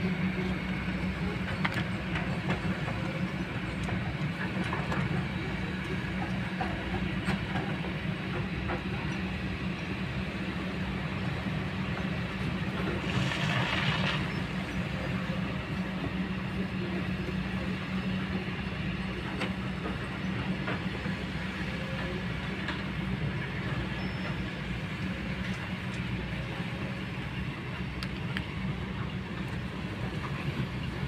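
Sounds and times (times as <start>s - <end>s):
excavator diesel engine drone: 0.0s - 31.0s.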